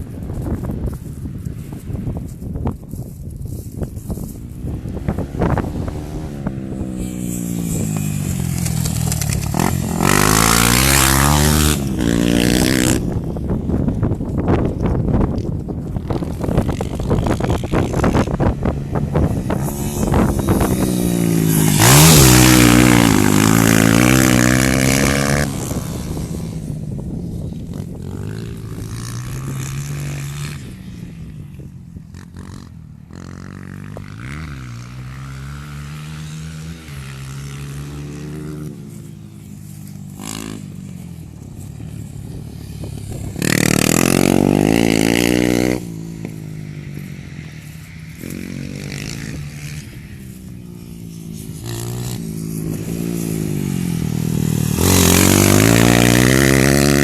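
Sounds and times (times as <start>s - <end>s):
dirt bike engines revving: 3.5s - 57.0s.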